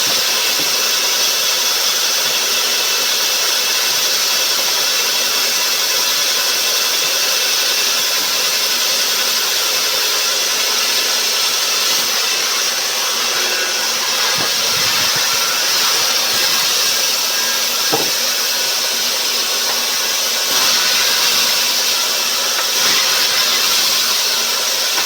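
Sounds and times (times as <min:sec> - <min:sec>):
sawmill machinery running: 0:00.0 - 0:25.0.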